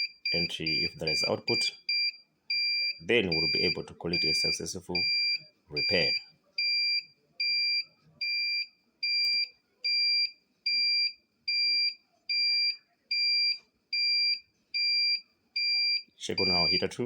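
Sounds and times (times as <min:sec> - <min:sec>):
high electronic alarm beeping: 0:00.0 - 0:17.0.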